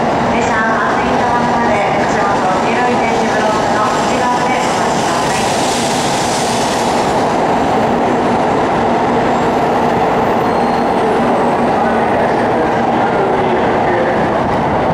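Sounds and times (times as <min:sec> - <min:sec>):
train rumbling on rails: 0:00.0 - 0:14.9.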